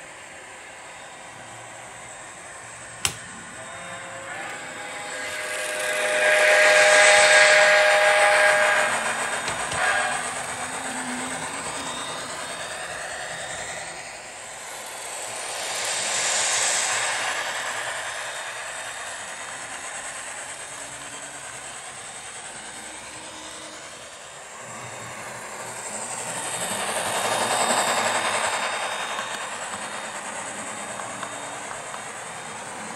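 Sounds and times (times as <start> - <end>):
model train rolling along track: 0.0 - 32.9.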